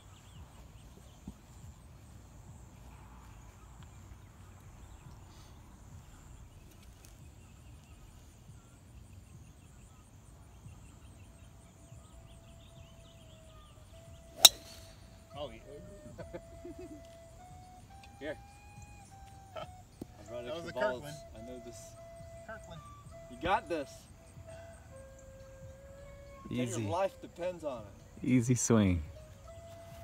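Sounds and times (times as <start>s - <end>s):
faint insect chirping: 0.0s - 30.0s
faint steady tone: 0.0s - 30.0s.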